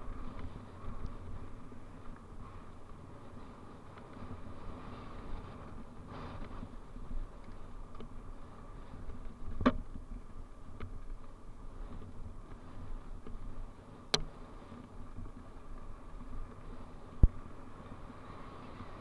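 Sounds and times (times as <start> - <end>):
bike tyre rumble and rattle: 0.0 - 19.0.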